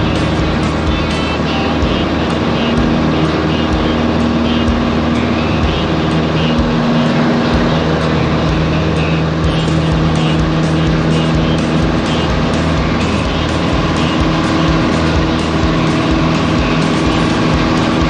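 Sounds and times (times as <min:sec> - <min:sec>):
propeller plane engine running: 0:00.0 - 0:18.0.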